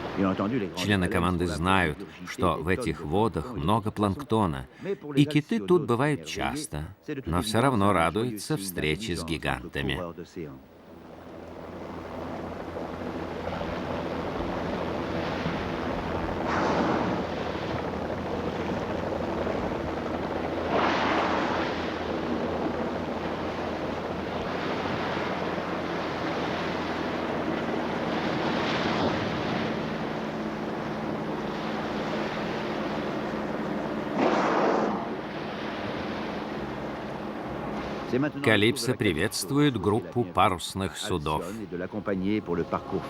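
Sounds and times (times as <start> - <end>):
sea waves washing: 0.0 - 43.0
steady low hum: 0.0 - 43.0.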